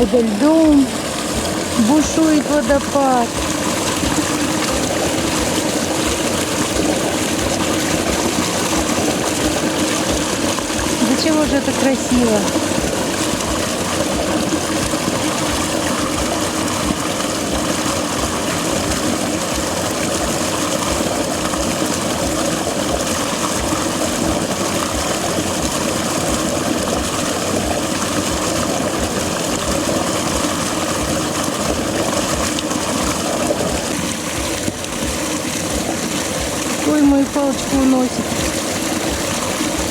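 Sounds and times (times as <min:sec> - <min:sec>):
stream rushing over small waterfall: 0:00.0 - 0:39.9.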